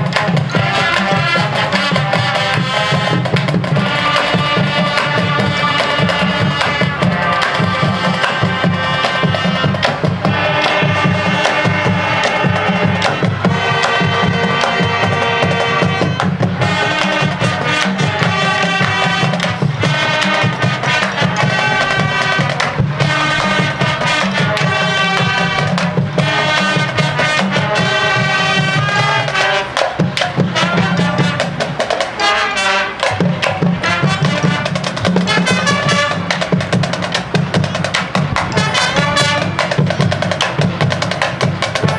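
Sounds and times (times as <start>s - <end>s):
brass melody: 0.0s - 41.9s
marching drumline: 0.0s - 41.9s.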